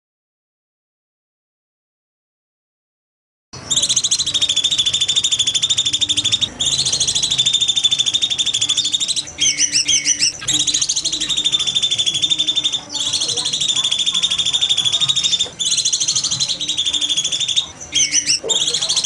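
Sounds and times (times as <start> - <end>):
songbird high shrill trill: 3.7 - 19.0.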